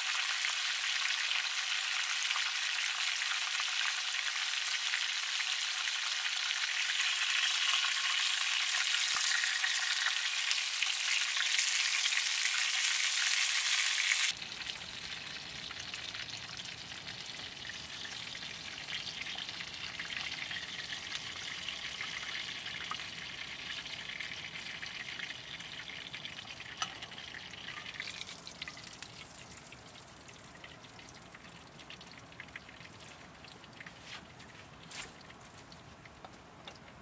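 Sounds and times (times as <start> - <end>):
sizzling hiss with crackles: 0.0 - 36.8.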